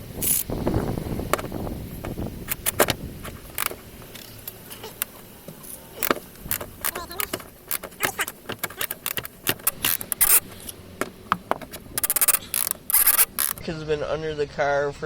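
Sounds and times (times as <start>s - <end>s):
scraping rustle: 0.0s - 13.7s
metal tools clinking: 1.4s - 13.6s.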